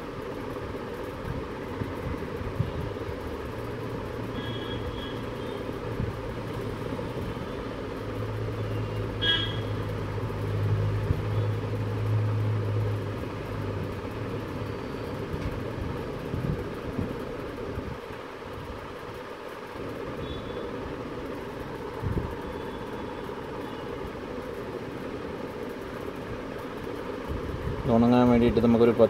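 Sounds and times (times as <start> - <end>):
vehicle engine drone: 0.0 - 29.0.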